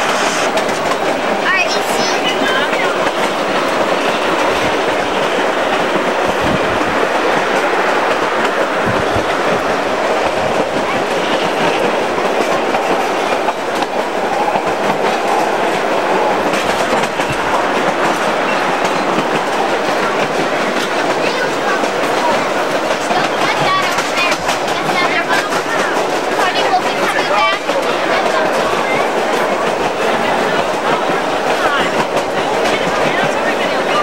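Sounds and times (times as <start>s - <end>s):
train rolling on rails: 0.0s - 34.0s.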